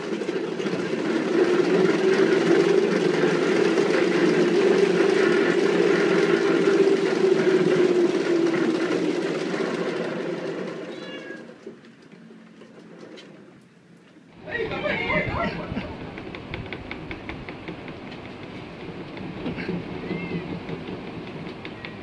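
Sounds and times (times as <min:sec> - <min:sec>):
cat exercise wheel rumbling: 0:00.0 - 0:22.0.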